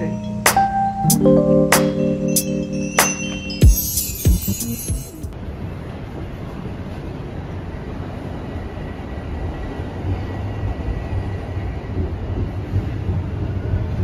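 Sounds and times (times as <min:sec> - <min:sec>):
subway train rumble: 0:00.0 - 0:04.7, 0:05.3 - 0:14.0.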